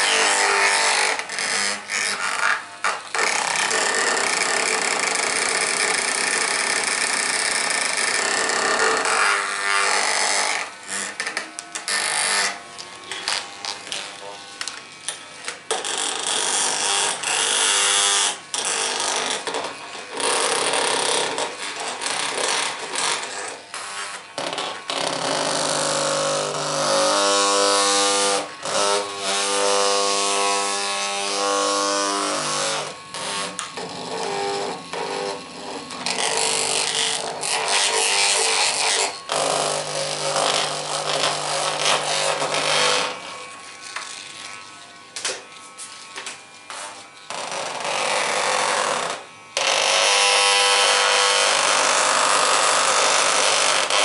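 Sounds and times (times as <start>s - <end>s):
small electric motor buzzing: 0.0s - 54.0s.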